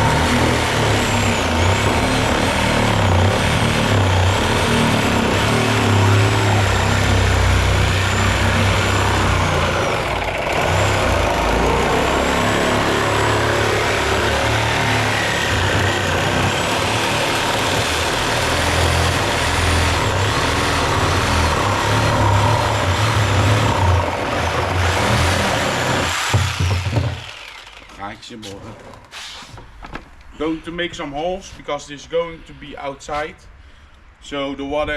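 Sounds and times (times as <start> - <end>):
road noise: 0.0 - 28.6.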